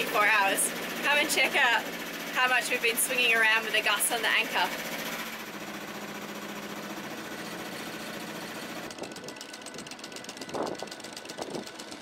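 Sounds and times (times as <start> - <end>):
boat engine chugging: 0.0 - 12.0.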